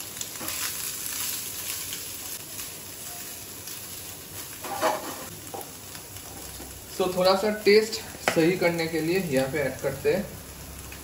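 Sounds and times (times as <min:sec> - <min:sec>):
food sizzling in a frying pan: 0:00.0 - 0:11.0
spatula turning food in pan: 0:00.0 - 0:11.0.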